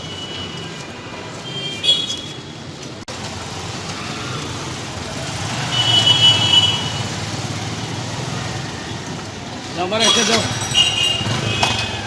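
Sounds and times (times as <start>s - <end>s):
rumble of passing vehicles: 0.0s - 12.0s.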